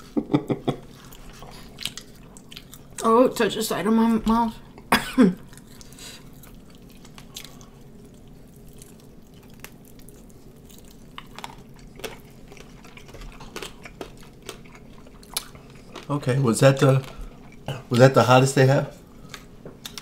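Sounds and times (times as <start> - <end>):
low room hum: 0.0 - 20.0
people chewing and smacking: 0.1 - 3.1, 4.8 - 18.2, 18.9 - 20.0.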